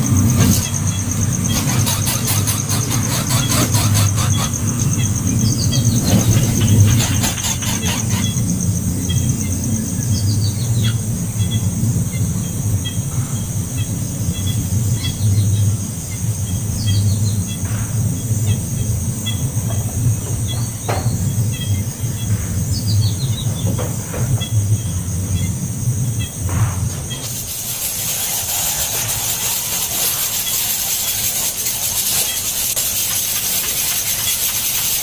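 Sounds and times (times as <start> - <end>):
birds chirping: 0.0 - 32.6
continuous high-pitched whine: 0.0 - 35.0.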